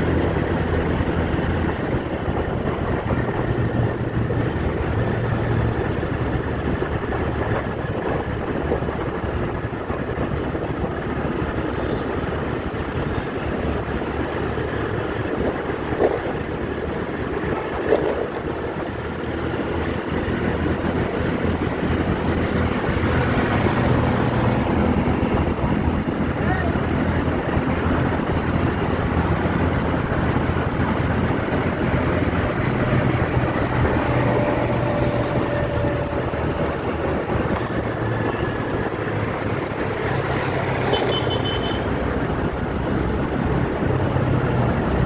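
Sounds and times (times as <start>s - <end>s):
vehicle engine and road noise: 0.0s - 45.0s.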